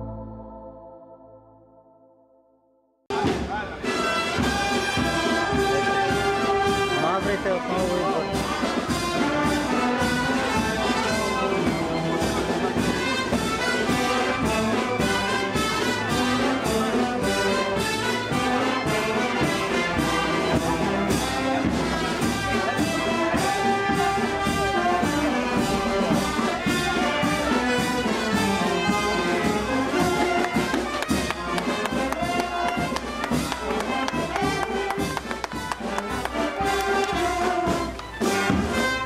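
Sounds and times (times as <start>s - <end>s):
brass band playing a march: 3.1s - 39.0s
steady drum beat: 3.1s - 39.0s.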